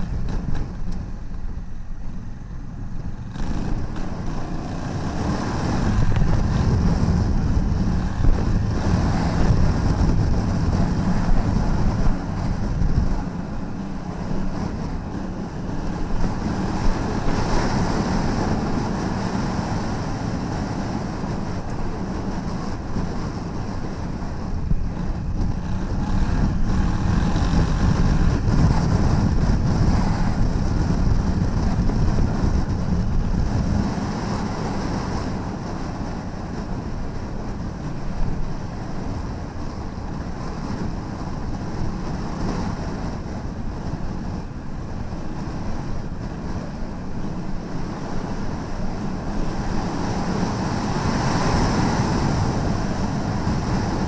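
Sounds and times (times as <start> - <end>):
motorcycle engine rumble: 0.0 - 54.0
tyres on gravel road: 0.0 - 54.0
wind buffeting microphone: 0.0 - 54.0.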